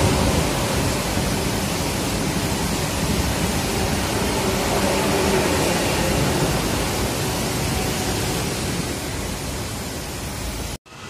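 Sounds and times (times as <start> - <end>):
train passing close by: 0.0 - 11.0.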